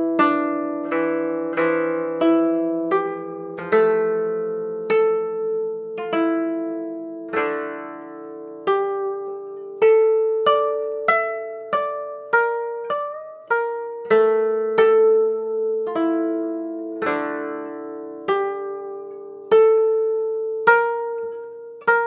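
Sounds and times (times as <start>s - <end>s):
koto plucked melody: 0.0s - 22.0s.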